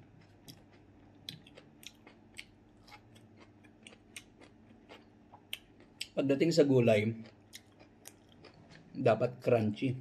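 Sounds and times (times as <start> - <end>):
person chewing crunchy vegetables: 0.0 - 9.3.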